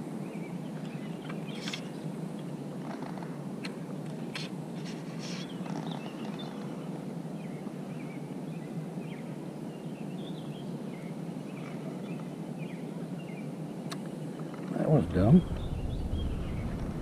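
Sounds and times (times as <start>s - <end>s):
low background rush: 0.0s - 17.0s
small birds chirping: 0.2s - 2.6s, 3.6s - 17.0s.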